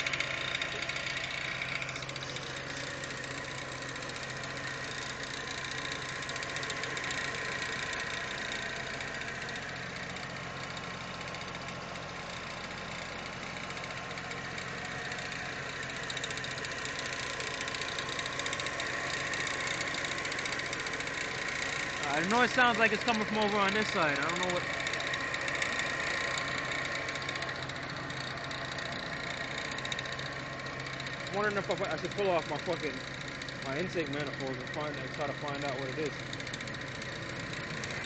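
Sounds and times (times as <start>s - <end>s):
abnormal mechanical noise: 0.0s - 38.0s
car engine idling: 0.0s - 38.0s.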